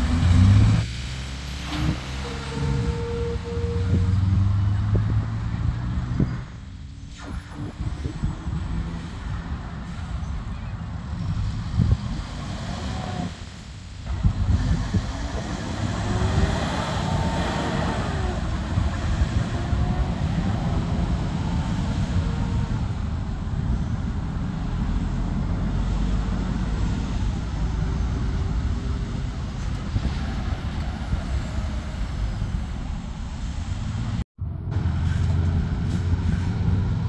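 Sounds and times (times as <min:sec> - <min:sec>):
passing cars: 0:00.0 - 0:37.0
truck diesel engine rumbling: 0:00.0 - 0:37.0.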